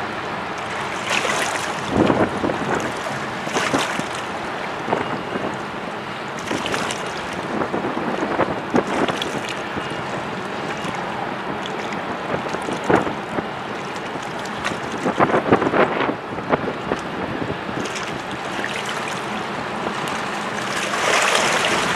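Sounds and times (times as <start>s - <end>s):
small waves splashing: 0.0s - 21.9s
wind on microphone: 0.9s - 5.8s, 6.4s - 21.9s.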